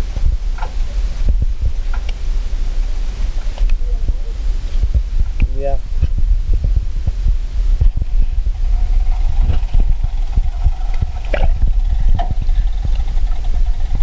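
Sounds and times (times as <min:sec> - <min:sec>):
faint steady hum: 0:00.0 - 0:14.0
underwater rumble: 0:00.0 - 0:14.0.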